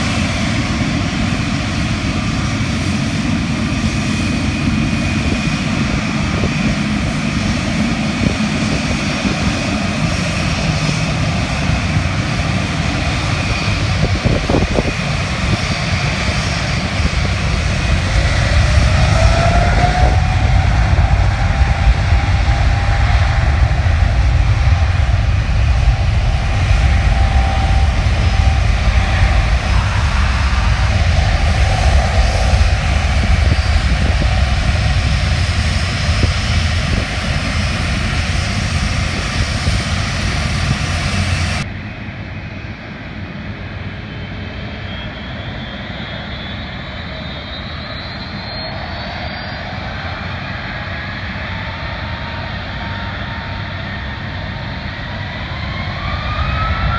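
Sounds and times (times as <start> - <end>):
jet engines rumbling and whining: 0.0 - 56.9.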